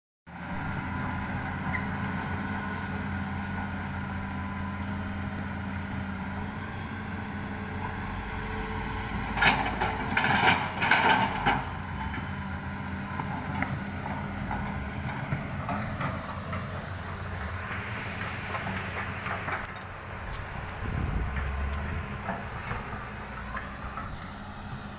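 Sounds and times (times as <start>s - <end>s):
diesel engine running: 0.3s - 24.9s.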